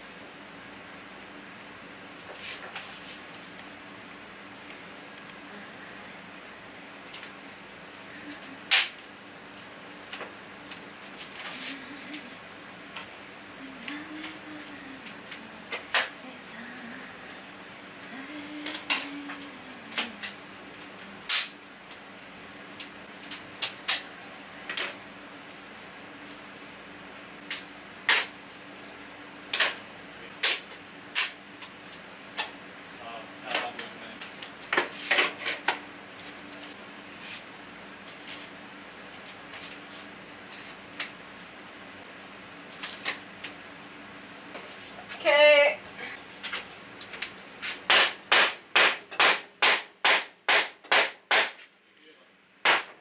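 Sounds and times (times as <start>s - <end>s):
steady low hum: 0.0s - 50.6s.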